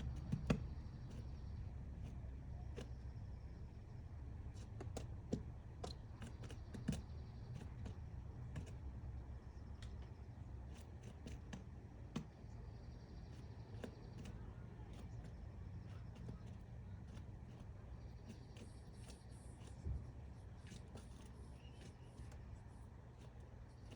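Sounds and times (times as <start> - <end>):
low steady rumble: 0.0 - 23.9
woodpecker tapping on wood: 0.0 - 23.9.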